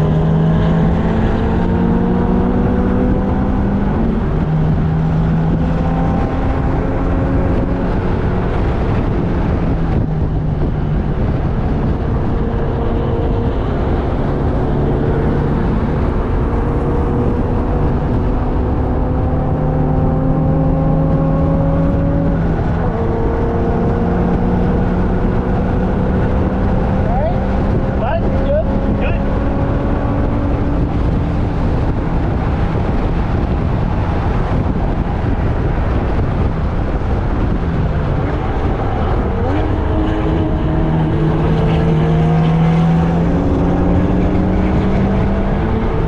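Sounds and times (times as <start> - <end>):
car engine at speed: 0.0 - 46.0
wind and road noise: 0.0 - 46.0.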